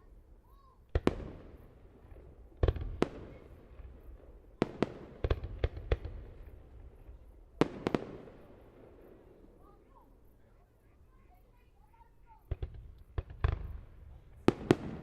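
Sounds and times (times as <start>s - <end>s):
fireworks bangs with rumbling echo: 0.8s - 10.1s, 11.1s - 15.0s.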